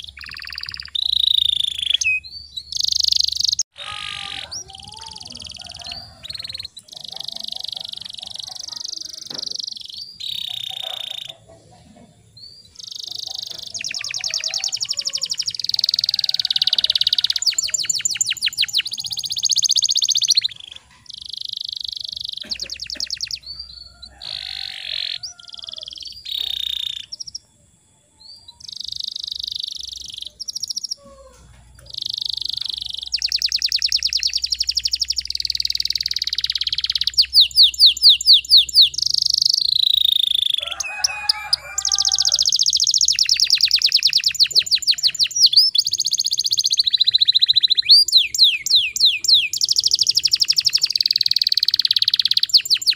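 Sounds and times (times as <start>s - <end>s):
canary singing chirps and trills: 0.0s - 52.9s.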